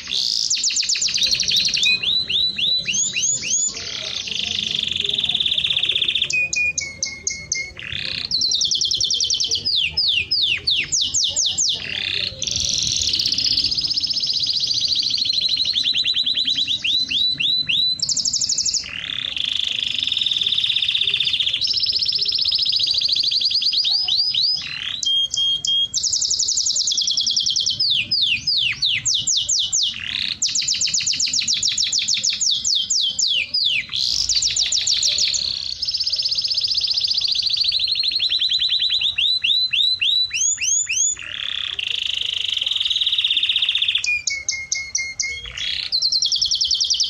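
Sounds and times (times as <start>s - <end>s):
songbird trilling: 0.0s - 47.0s.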